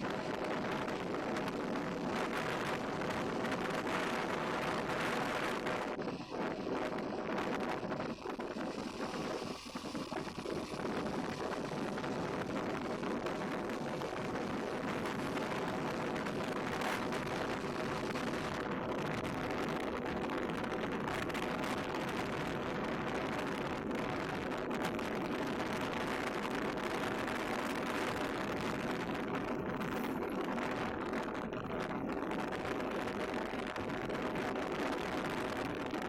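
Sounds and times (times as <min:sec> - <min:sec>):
wind noise: 0:00.0 - 0:36.0.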